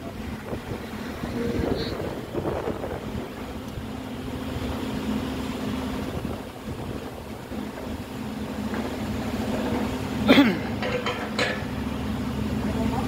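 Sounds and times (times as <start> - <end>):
constant low hum: 0.0 - 13.0
diesel engine drone: 0.0 - 13.0.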